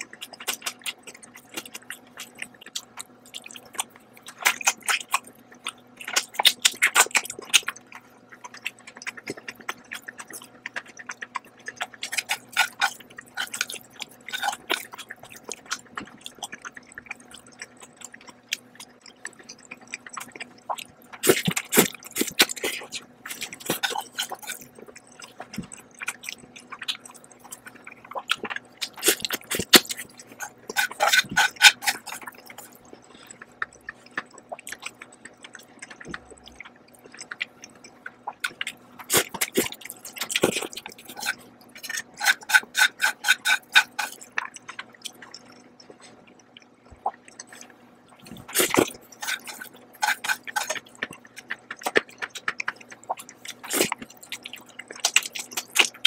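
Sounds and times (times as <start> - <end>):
person slurping and chewing noodles: 0.0 - 56.0.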